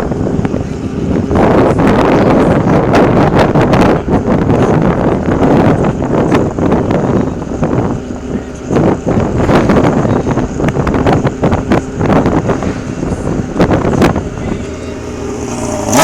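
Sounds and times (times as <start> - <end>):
motorcycle engine running loud: 0.0 - 16.0
wind on microphone: 0.0 - 16.0.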